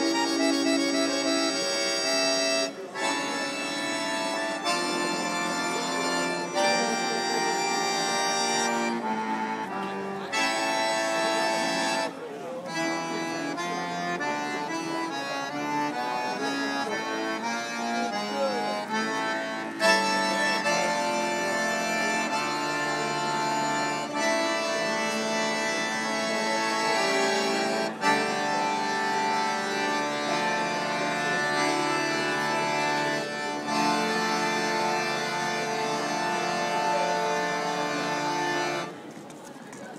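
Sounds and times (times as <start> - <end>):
accordions playing a tune: 0.0 - 39.9.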